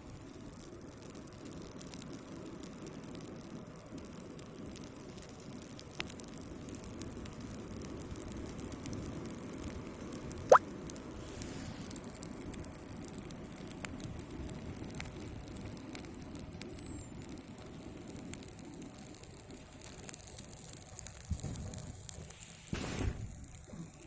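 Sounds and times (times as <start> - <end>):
campfire burning with crackles: 0.0 - 24.0.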